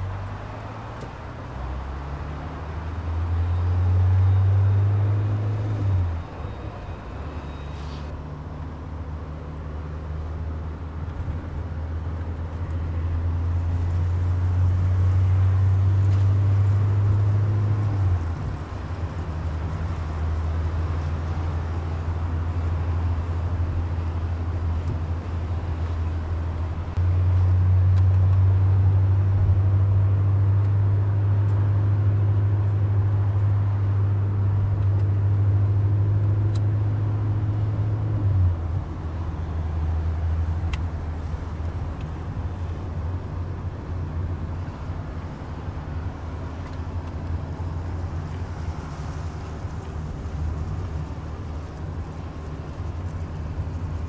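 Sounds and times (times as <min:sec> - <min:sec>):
car engine and tyre drone: 0:00.0 - 0:54.0.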